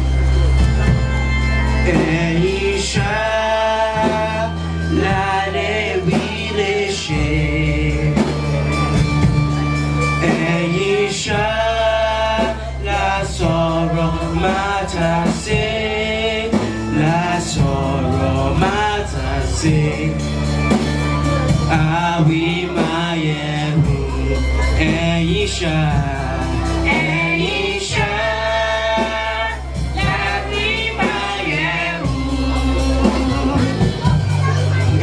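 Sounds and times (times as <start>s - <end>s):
instrumental accompaniment: 0.0s - 35.0s
choir singing praise song: 1.8s - 9.0s, 10.0s - 20.8s, 21.5s - 35.0s.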